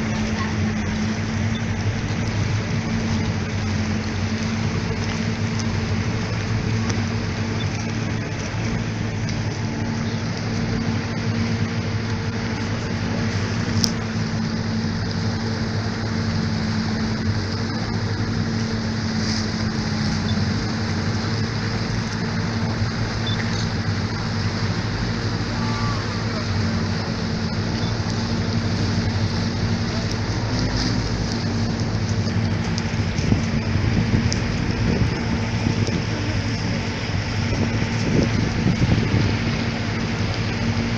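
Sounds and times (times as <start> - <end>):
motorboat engine running: 0.0 - 40.9
rushing water and air: 0.0 - 40.9.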